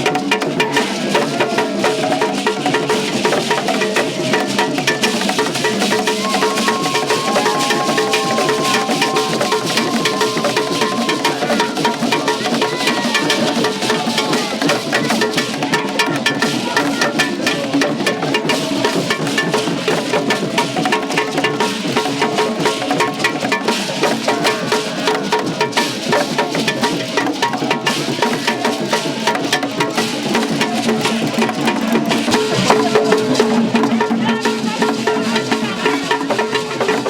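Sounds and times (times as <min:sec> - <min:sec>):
drum ensemble playing: 0:00.0 - 0:37.0.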